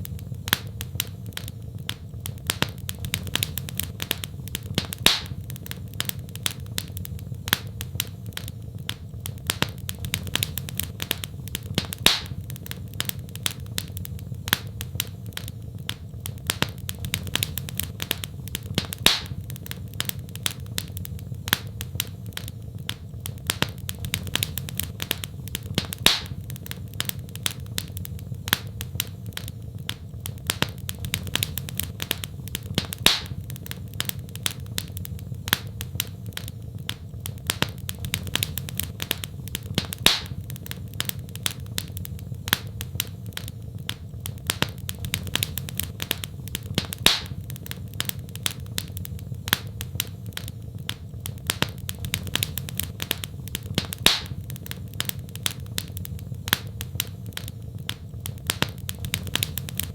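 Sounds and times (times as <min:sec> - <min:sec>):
fire crackling: 0:00.0 - 0:59.9
loud pops of fire: 0:00.0 - 0:59.9
low rumble of fire: 0:00.0 - 0:59.9.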